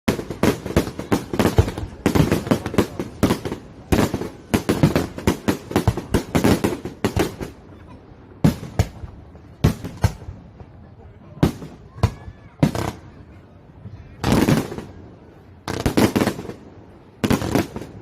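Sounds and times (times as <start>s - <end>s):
fireworks bangs: 0.1s - 18.0s.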